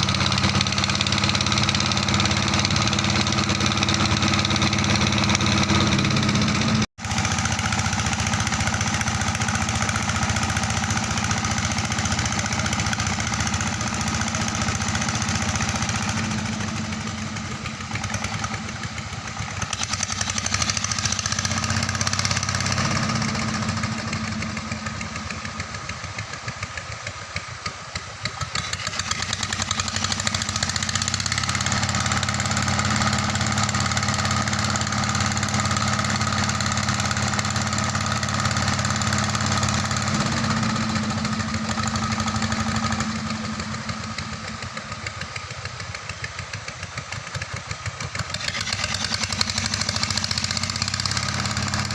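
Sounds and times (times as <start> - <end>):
pump engine running: 0.0 - 51.9.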